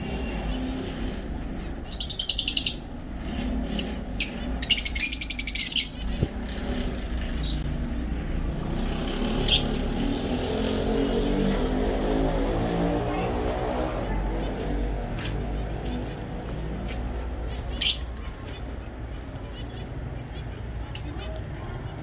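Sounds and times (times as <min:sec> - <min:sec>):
pet birds chirping: 0:00.2 - 0:22.0.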